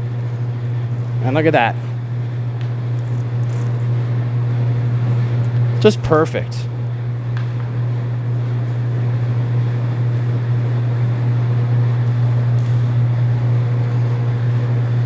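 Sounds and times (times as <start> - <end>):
wire stripping machine humming: 0.0 - 15.0.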